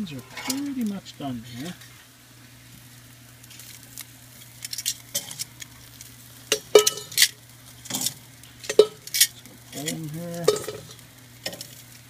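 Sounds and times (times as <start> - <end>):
chicken sizzling over charcoal: 0.0 - 12.0
crackles and pops: 0.1 - 12.0.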